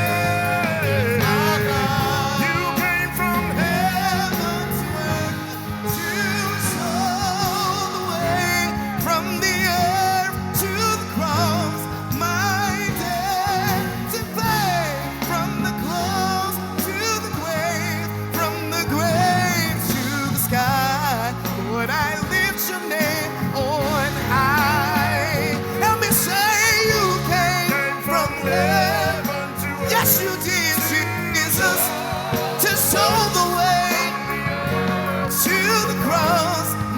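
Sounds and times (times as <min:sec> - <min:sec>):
drums and cymbals: 0:00.0 - 0:36.9
sustained bass notes: 0:00.0 - 0:36.9.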